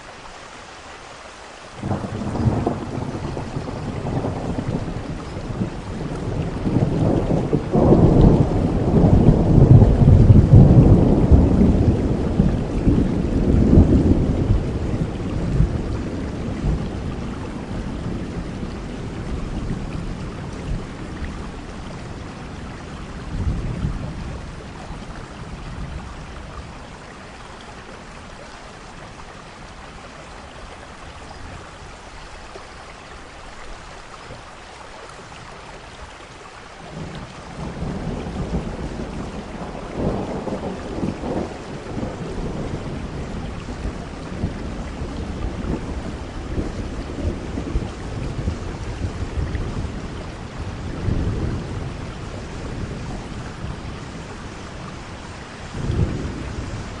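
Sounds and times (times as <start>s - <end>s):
steady rain: 0.0s - 57.0s
thunder rumbling: 1.8s - 28.4s, 36.9s - 57.0s.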